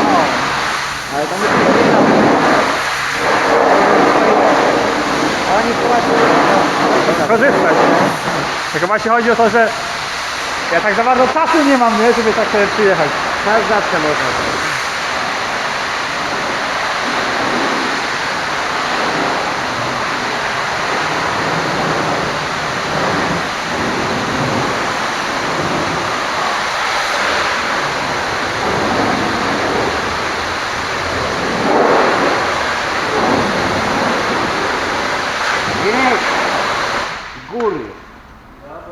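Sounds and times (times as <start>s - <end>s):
high-pressure water spray on metal: 0.0s - 38.5s.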